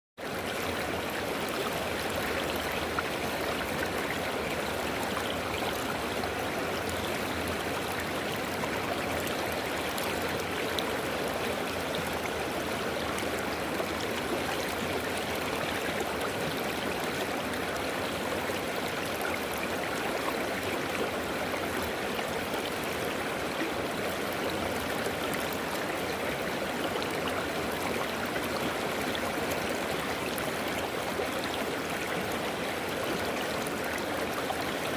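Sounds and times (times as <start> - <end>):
stream water rushing over stones: 0.2 - 34.9.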